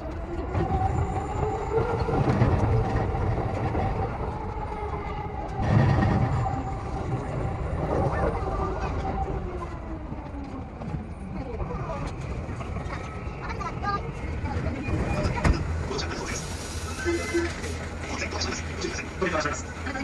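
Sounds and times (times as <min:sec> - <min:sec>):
electric train rolling rumble: 0:00.0 - 0:20.0.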